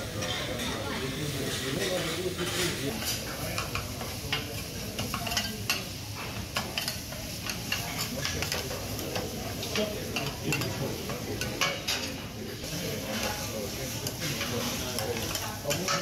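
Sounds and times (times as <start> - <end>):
food sizzling on griddle: 0.0 - 16.0
metal spatulas scraping and clacking: 1.5 - 12.2, 13.1 - 16.0.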